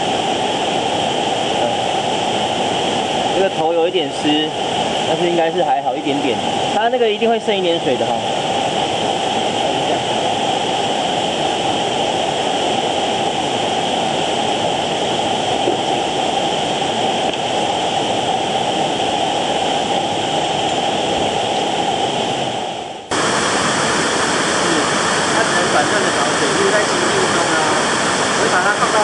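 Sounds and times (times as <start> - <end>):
bright hissy rush of water: 0.0 - 29.0
stream and waterfall rushing: 0.0 - 29.0.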